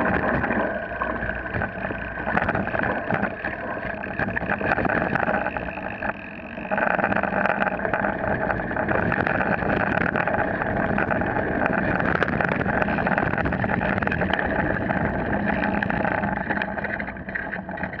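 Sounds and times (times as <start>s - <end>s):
small clicks and rattles: 0.0s - 18.0s.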